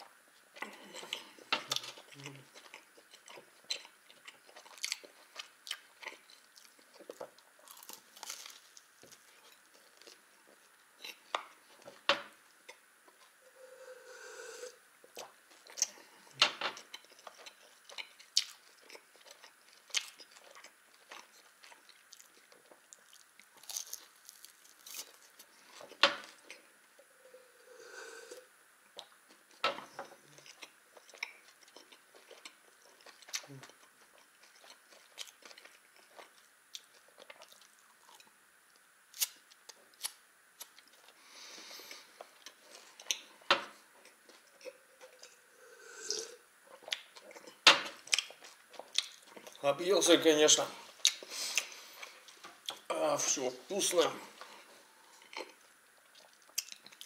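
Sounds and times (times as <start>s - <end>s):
person chewing a bun: 0.0s - 14.1s, 15.0s - 49.6s, 50.8s - 52.9s, 54.2s - 57.0s.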